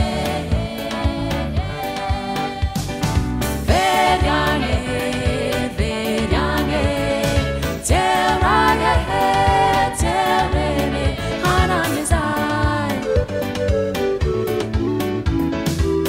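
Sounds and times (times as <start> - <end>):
song with singing over a beat: 0.0 - 15.0.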